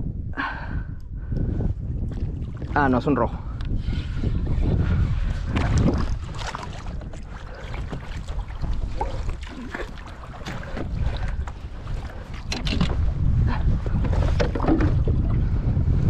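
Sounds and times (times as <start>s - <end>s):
wind buffeting microphone: 0.0s - 16.0s
water slapping against hull: 1.4s - 16.0s.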